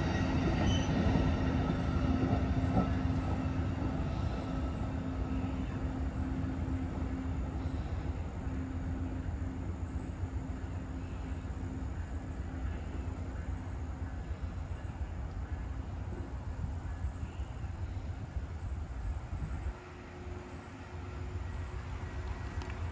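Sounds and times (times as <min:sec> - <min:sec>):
passenger train rumbling past: 0:00.0 - 0:22.9.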